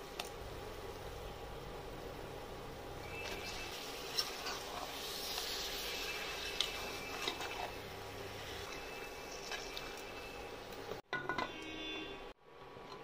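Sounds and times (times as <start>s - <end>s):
chicken sizzling in a pot: 0.0s - 11.1s.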